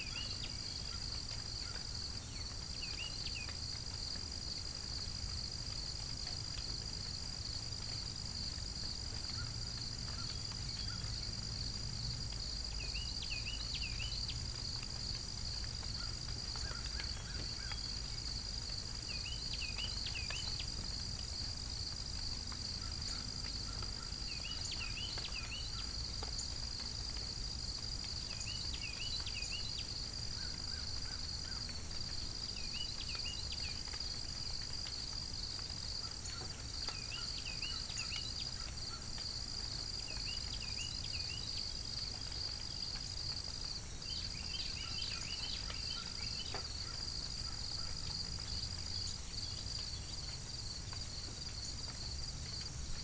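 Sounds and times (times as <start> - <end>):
insect chirps: 0.0 - 53.0
insects trilling: 0.0 - 53.0.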